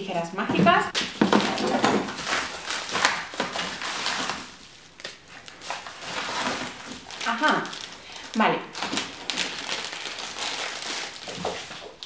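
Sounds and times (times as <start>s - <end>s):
paper rustling: 1.0s - 12.0s.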